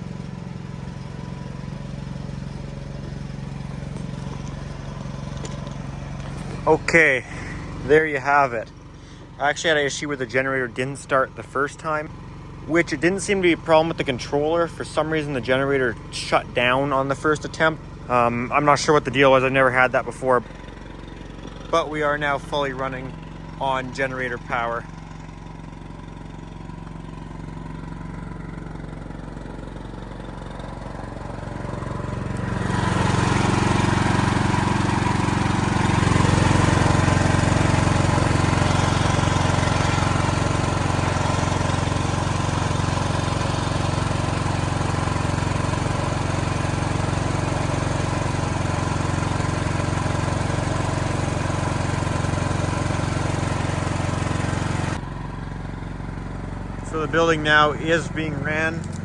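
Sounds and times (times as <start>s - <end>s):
generator engine running: 0.0s - 59.0s.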